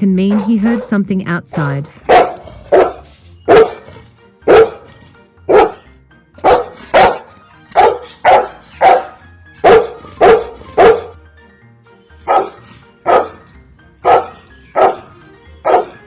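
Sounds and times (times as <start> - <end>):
music playing: 0.0 - 16.0
dog barking: 0.2 - 4.9, 5.5 - 11.2, 12.2 - 16.0.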